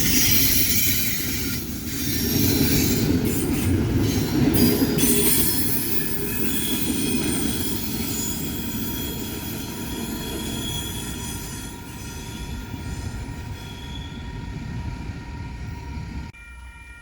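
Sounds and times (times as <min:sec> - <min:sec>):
train cars rumbling on rails: 0:00.0 - 0:16.4
high wheel squeal: 0:00.0 - 0:17.0.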